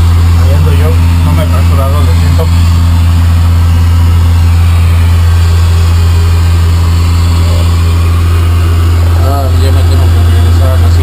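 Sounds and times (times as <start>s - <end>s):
airliner engines droning in cabin: 0.0s - 11.0s.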